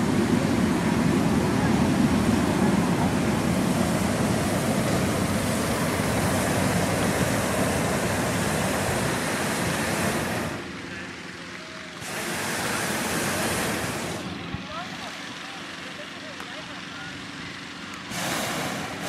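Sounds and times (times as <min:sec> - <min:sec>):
propane burner roaring: 0:00.0 - 0:19.0.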